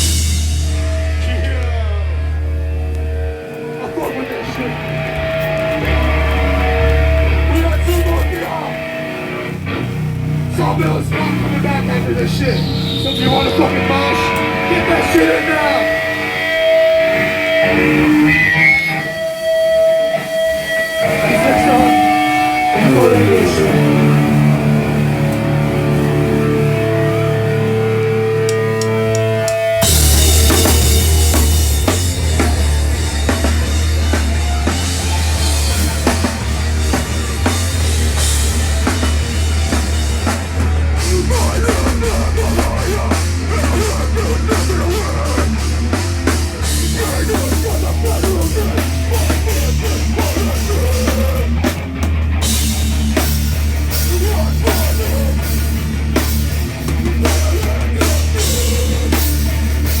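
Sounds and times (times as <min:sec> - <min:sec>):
live heavy rock band: 0:00.0 - 1:00.0
pounding drum kit: 0:00.0 - 1:00.0.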